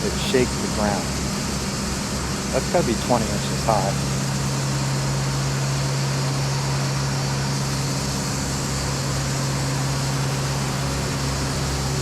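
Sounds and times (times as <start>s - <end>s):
band sawmill running: 0.0s - 12.0s.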